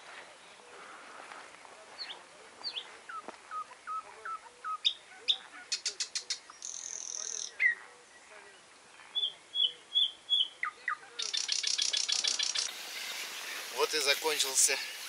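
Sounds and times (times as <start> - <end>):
nightingale singing: 2.0 - 14.0.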